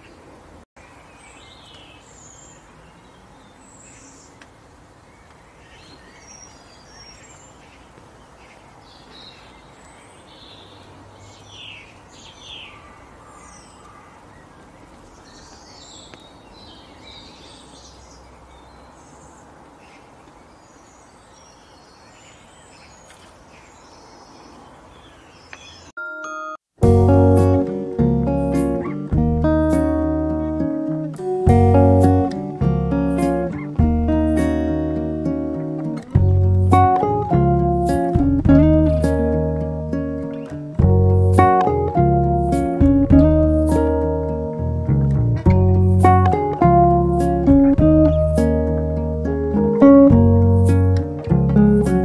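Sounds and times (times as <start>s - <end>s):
steady background hiss: 0.0s - 25.9s, 26.8s - 52.0s
small birds chirping: 0.0s - 26.0s, 27.0s - 52.0s.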